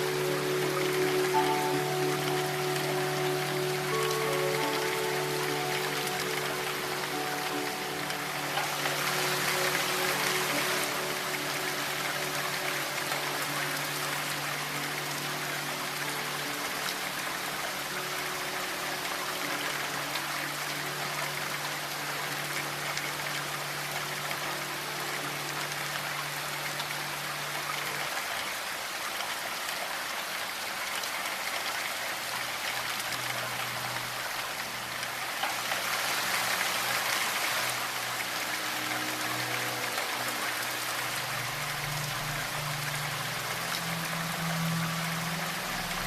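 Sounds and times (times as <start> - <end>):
ambient music drone: 0.0 - 46.0
rain falling: 0.0 - 46.0.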